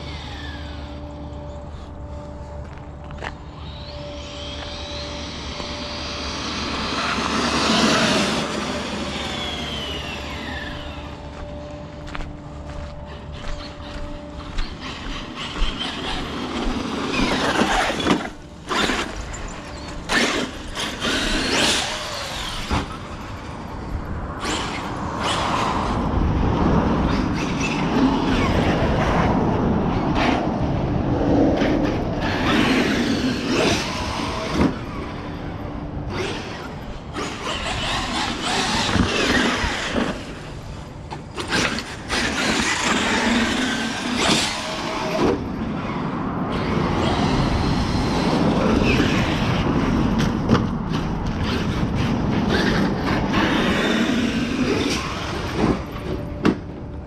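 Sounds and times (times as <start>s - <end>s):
remote control car motor: 0.0s - 11.6s, 13.0s - 26.1s, 27.0s - 29.3s, 31.6s - 56.3s.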